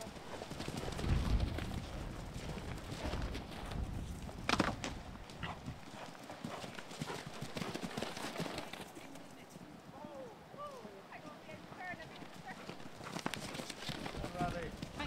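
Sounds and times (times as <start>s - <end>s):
horse hooves clopping on turf: 0.0s - 15.0s.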